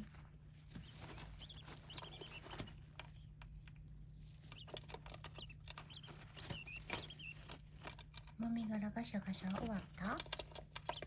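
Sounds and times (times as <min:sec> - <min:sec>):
birds scratching in bedding: 0:00.0 - 0:11.0.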